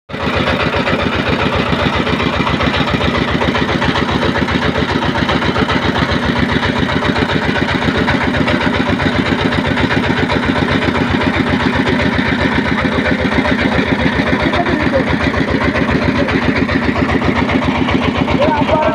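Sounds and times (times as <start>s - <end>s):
boat engine chugging: 0.1s - 18.9s.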